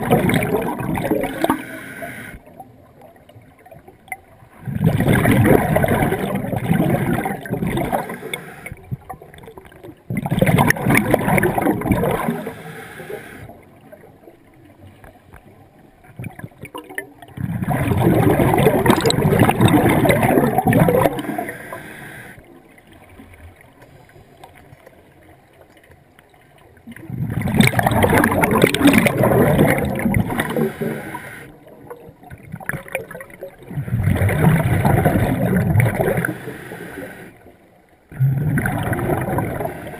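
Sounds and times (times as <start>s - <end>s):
bubbles gurgling underwater: 0.0s - 23.9s, 25.2s - 37.1s, 38.1s - 39.9s.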